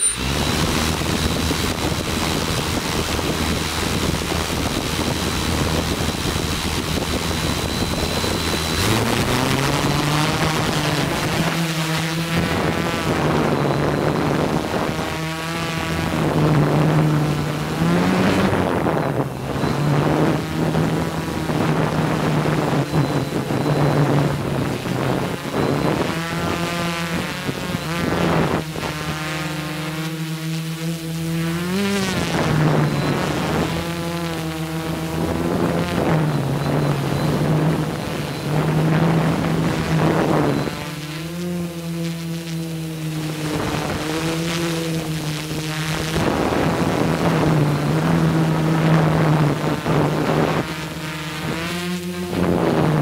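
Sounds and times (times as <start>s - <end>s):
copter motors humming: 0.0s - 53.0s
wind rushing over microphone: 0.0s - 53.0s.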